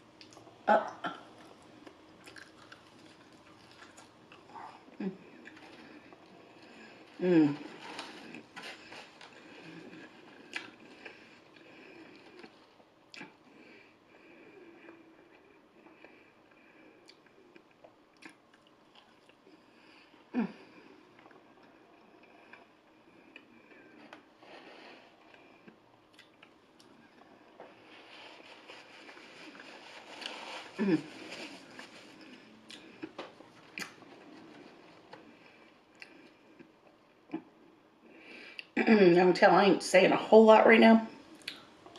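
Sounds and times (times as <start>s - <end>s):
chewing fried food: 1.2s - 13.6s, 14.8s - 20.2s, 20.8s - 37.4s.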